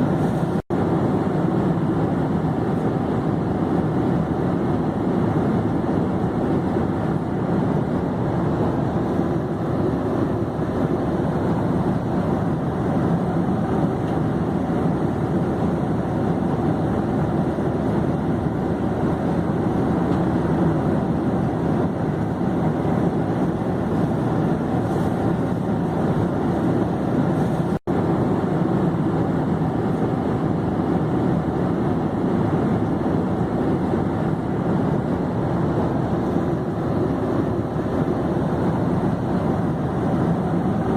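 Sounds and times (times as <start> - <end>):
airplane engine in flight: 0.0 - 40.9.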